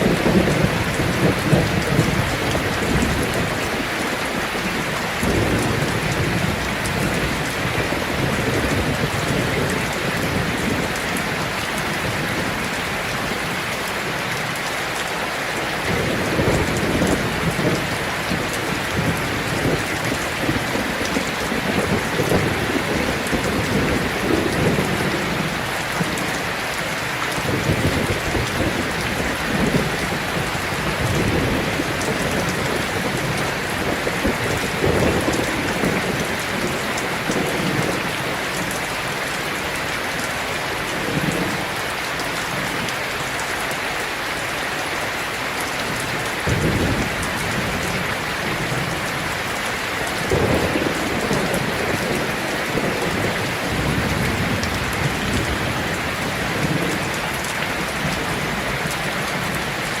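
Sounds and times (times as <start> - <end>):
thunder rumbling: 0.0 - 14.6, 15.8 - 40.3, 45.8 - 60.0
heavy rain on metal roof: 0.0 - 60.0.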